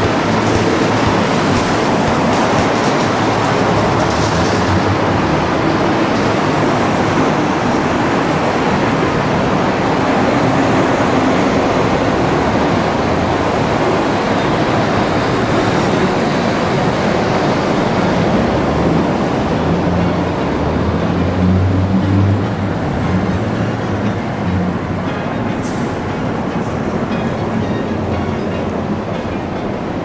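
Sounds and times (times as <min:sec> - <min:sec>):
loud rumbling of freight yard: 0:00.0 - 0:30.0.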